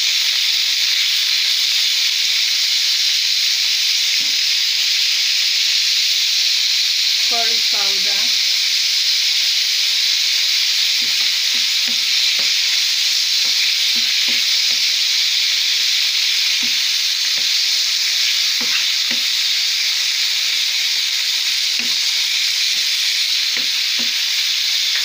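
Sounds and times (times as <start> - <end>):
chicken sizzling in a frying pan: 0.0 - 25.0.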